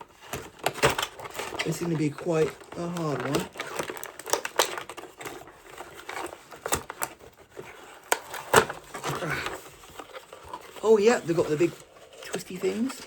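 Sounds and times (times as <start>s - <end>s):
cardboard and plastic snapping: 0.0s - 13.0s
packaging clicks and crinkles: 0.0s - 13.0s.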